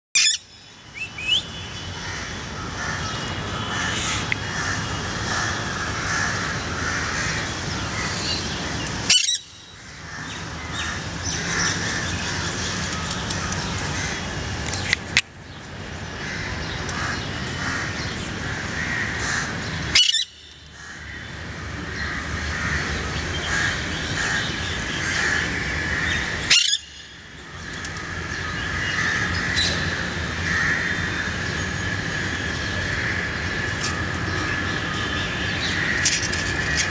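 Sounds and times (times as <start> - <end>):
outdoor background noise: 0.1 - 36.9
birds chirping and calling: 0.2 - 36.9.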